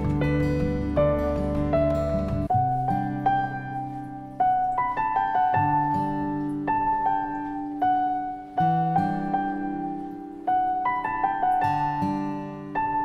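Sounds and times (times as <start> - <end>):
slow solo piano music: 0.0 - 13.0.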